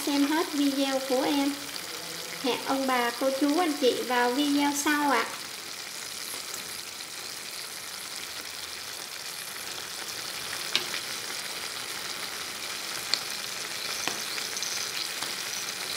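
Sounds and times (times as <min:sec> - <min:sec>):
sharp frying pops: 0:00.0 - 0:01.7, 0:03.4 - 0:15.9
food sizzling in a pan: 0:00.0 - 0:15.9.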